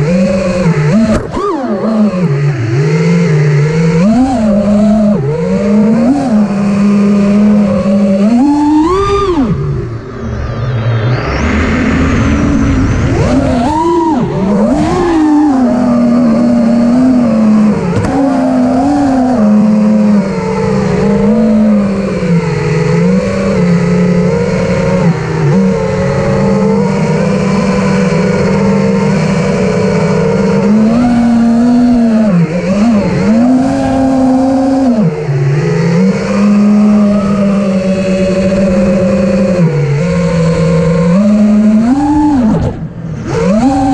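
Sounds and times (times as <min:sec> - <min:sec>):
quadcopter motors whining: 0:00.0 - 0:43.9.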